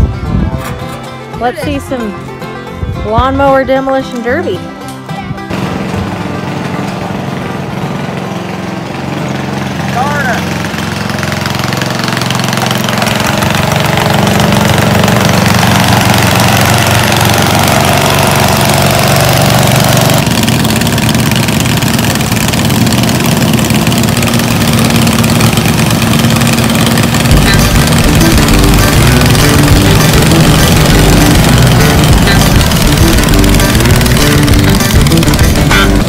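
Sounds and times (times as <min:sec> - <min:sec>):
lawn mower engines droning: 0:00.0 - 0:36.0.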